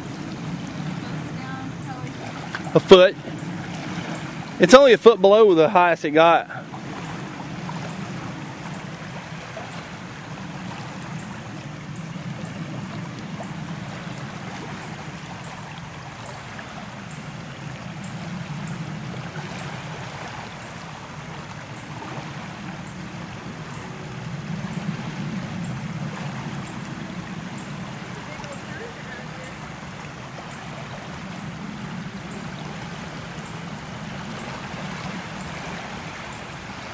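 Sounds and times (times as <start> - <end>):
low hum: 0.0 - 36.9
water wash: 0.0 - 36.9.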